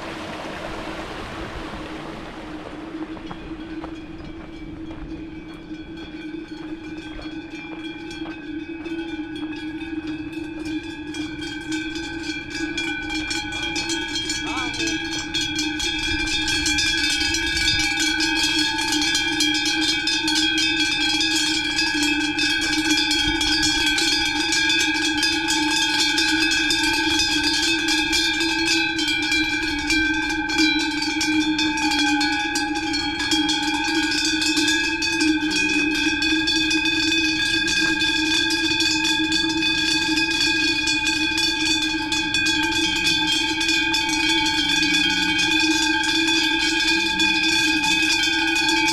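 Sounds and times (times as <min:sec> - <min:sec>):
cowbells clanking: 0:03.2 - 0:48.9.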